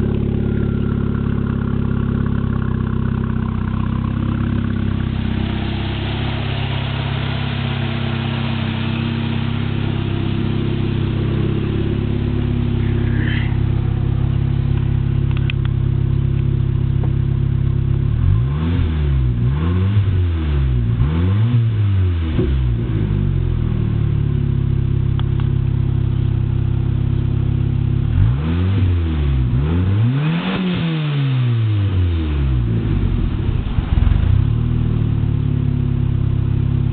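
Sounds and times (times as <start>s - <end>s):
engine idling and revving: 0.0s - 36.9s.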